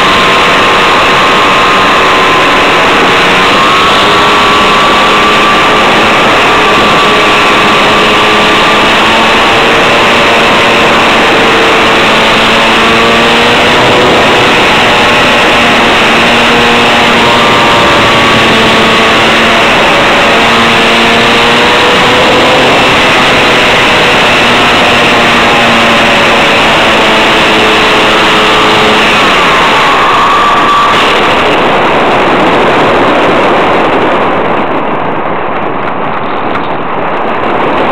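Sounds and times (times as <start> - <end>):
model airplane motor and propeller: 0.0 - 37.9
wind noise: 0.0 - 37.9.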